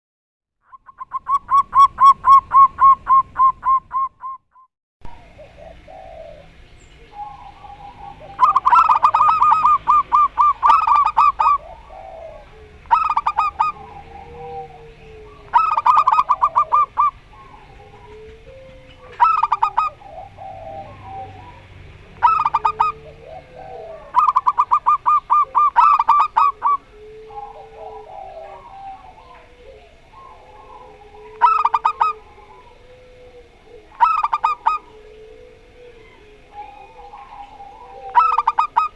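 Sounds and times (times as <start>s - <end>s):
doves cooing: 0.7s - 4.4s, 5.0s - 38.9s
background hiss: 5.1s - 38.9s.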